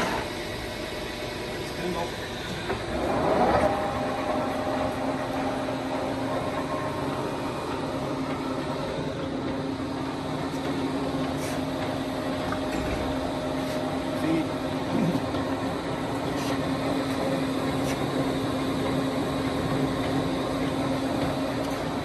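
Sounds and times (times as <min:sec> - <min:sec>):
lathe running: 0:00.0 - 0:22.0.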